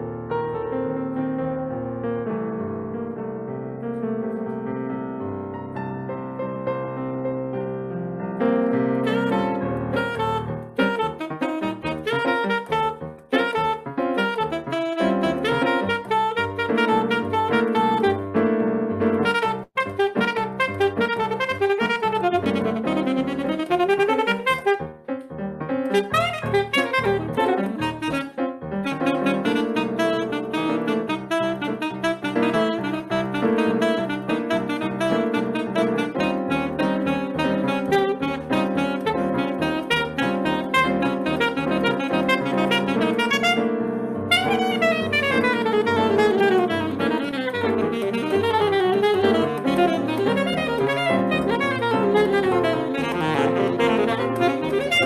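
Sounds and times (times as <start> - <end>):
jazz saxophone: 0.0 - 55.0
piano accompaniment: 0.0 - 55.0.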